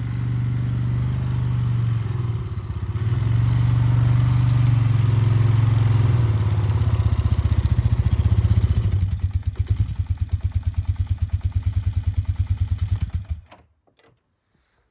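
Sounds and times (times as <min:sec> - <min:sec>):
atv engine idling: 0:00.0 - 0:13.5.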